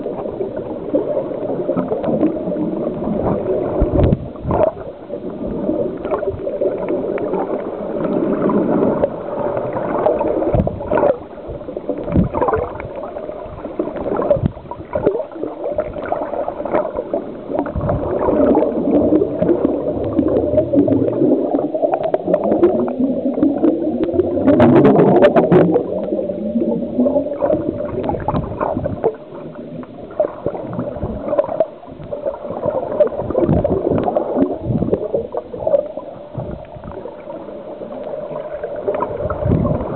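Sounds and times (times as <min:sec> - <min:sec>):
small crackles: 0:00.0 - 0:39.9
underwater gurgling and bubbling: 0:00.0 - 0:39.9.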